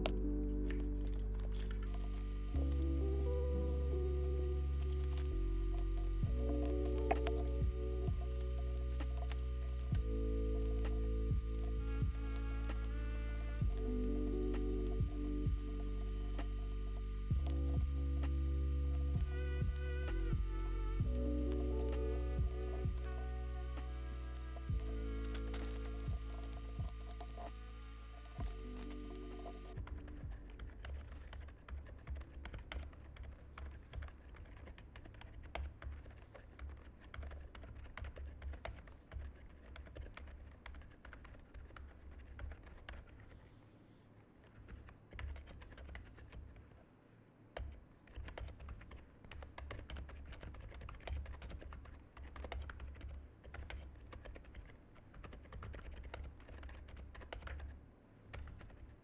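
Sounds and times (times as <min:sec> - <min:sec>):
mechanical keyboard typing: 0:00.0 - 0:43.4, 0:44.6 - 0:46.6, 0:47.6 - 0:58.9.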